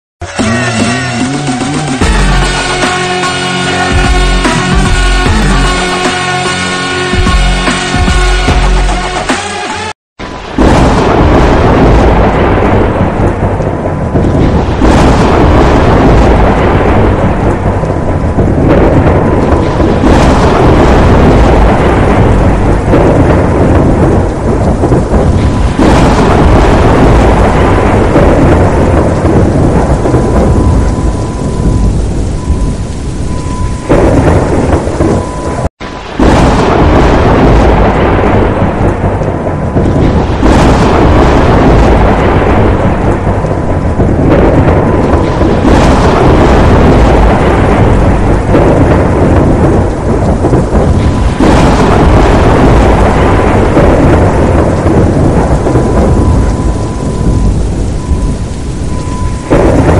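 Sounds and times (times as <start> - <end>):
heavy rain: 0.2 - 59.9
deep rumble: 10.2 - 59.9.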